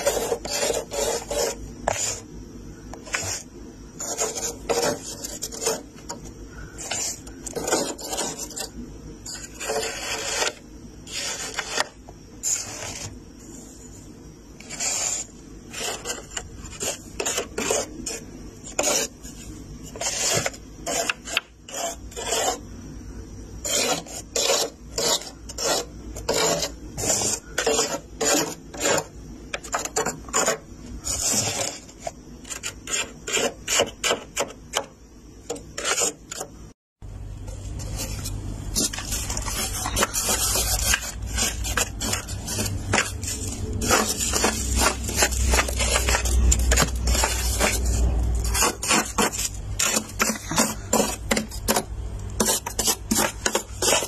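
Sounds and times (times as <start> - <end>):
scraper rasping frost: 0.0 - 2.2, 3.0 - 13.9, 14.6 - 22.6, 23.6 - 29.1, 29.7 - 34.2, 37.7 - 54.0.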